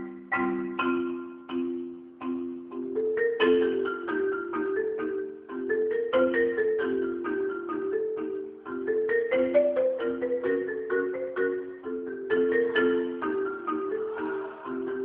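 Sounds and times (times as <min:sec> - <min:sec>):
marimba played with mallets: 0:00.0 - 0:15.0.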